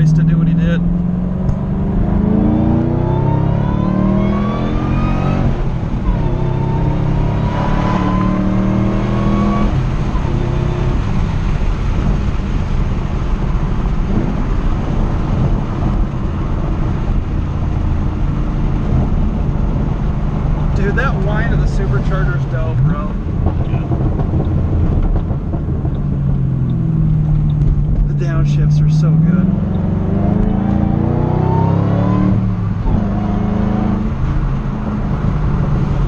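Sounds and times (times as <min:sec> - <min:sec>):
car engine accelerating: 0:00.0 - 0:36.0
supercharger whine: 0:00.0 - 0:36.0.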